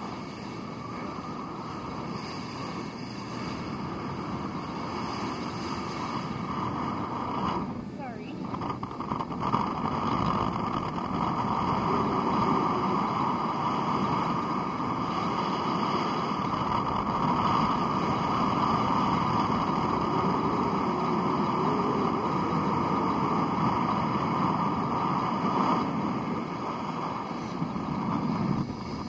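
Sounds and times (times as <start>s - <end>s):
boat engine: 0.0s - 29.0s
water noise: 0.0s - 29.0s
wind on microphone: 0.0s - 29.0s.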